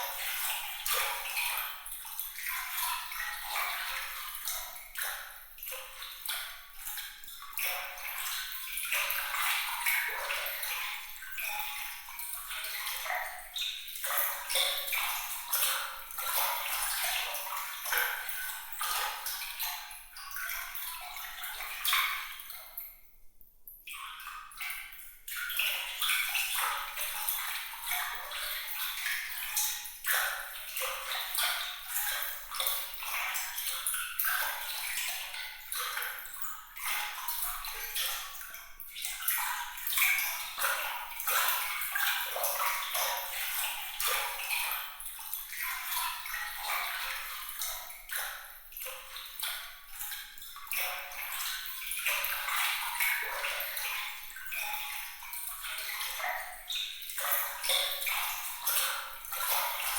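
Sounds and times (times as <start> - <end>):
water trickling and splashing: 0.0 - 23.2, 23.8 - 59.9.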